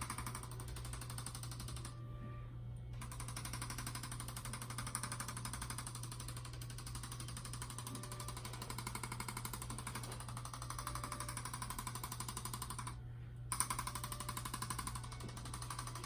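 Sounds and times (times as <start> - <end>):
percussion massager buzzing rattle: 0.0 - 2.0, 2.9 - 16.0.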